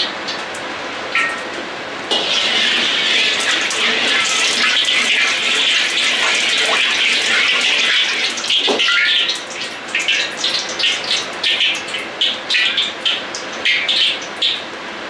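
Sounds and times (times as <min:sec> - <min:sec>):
water sizzling in a hot wok: 0:02.1 - 0:14.6.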